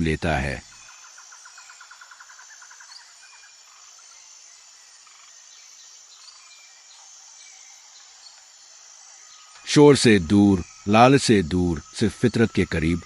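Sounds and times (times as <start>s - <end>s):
high insect-like hiss: 0.0s - 13.0s.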